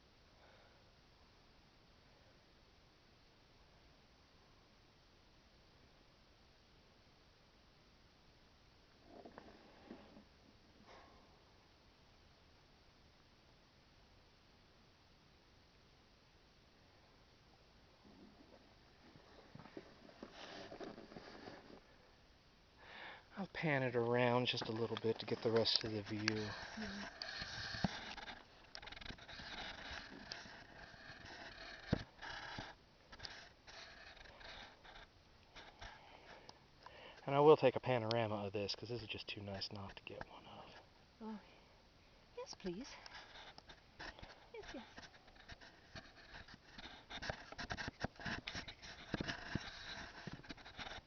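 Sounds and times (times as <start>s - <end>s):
faint hiss: 0.0s - 51.0s.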